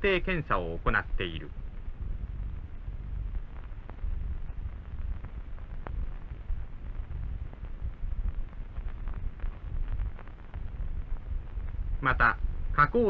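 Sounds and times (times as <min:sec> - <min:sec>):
faint hiss: 0:00.0 - 0:13.0
low steady rumble: 0:00.0 - 0:13.0.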